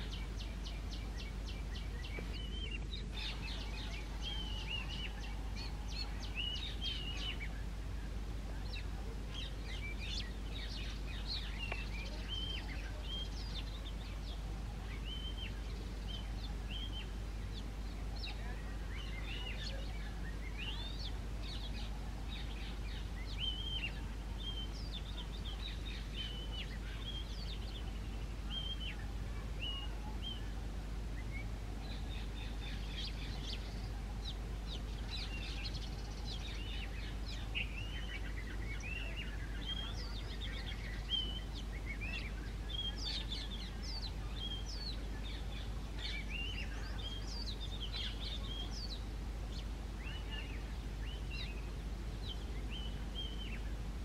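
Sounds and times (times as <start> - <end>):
bird singing whistled notes: 0.0 - 30.6, 31.2 - 53.7
steady low hum: 0.0 - 54.0.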